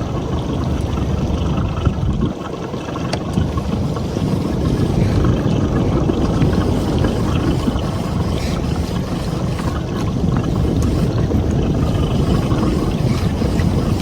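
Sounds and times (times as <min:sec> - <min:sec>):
water around boat: 0:00.0 - 0:14.0
wind rumbling on microphone: 0:00.0 - 0:14.0.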